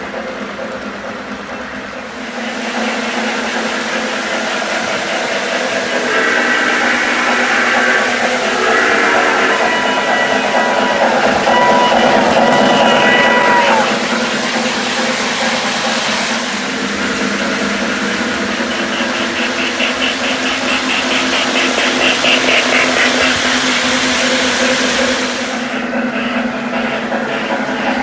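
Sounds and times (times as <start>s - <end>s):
model train electric hum: 0.0s - 28.0s
rhythmic clicking: 0.0s - 28.0s
rolling wheel noise: 0.0s - 28.0s
locomotive whistle: 2.1s - 28.0s.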